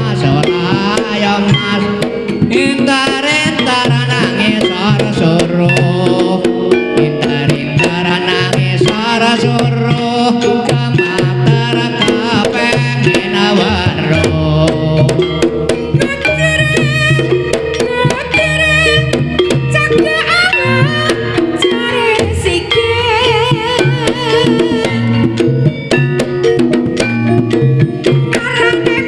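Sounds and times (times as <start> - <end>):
gamelan melody: 0.0 - 29.0.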